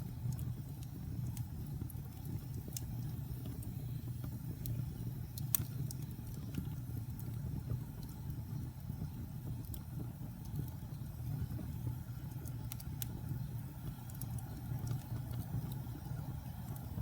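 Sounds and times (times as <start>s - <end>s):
fire crackling and popping: 0.0s - 17.0s
rumble of flames: 0.0s - 17.0s.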